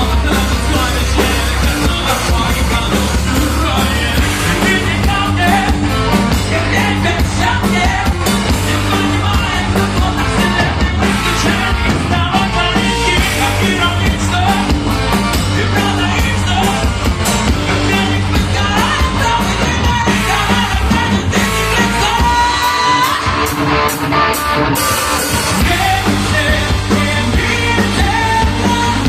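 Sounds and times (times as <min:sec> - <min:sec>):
person singing: 0:00.0 - 0:24.0, 0:24.8 - 0:29.0
heavy metal band playing: 0:00.0 - 0:29.0.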